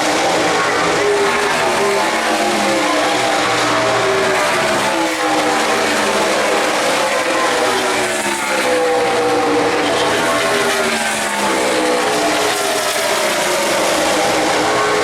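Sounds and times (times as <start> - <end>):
drone of race cars: 0.0 - 15.0
race cars passing: 0.0 - 15.0.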